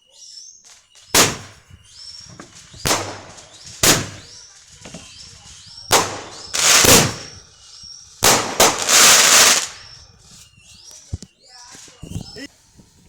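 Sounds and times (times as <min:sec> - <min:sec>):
fireworks bangs and crackle: 0:00.0 - 0:13.0.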